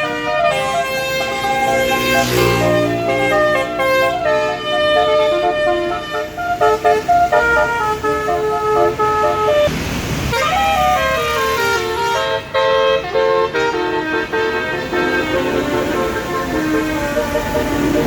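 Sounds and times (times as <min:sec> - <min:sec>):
bus air horn melody: 0:00.0 - 0:09.7, 0:10.3 - 0:18.0.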